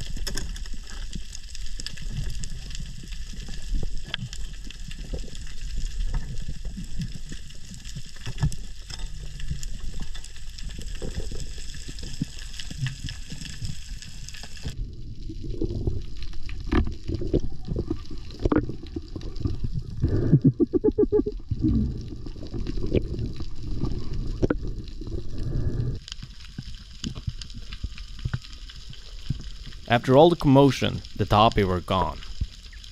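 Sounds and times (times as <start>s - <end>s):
underwater swirling and gurgling: 0.0s - 31.2s
crackling hiss: 0.0s - 32.9s.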